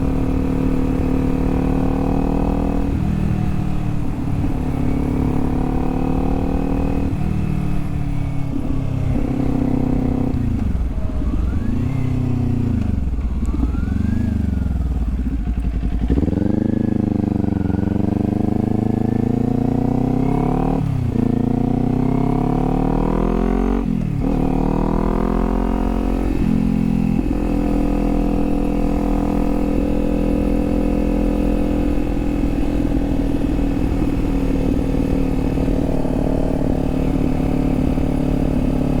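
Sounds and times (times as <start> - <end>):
motorcycle engine shifting gears: 0.0 - 39.0.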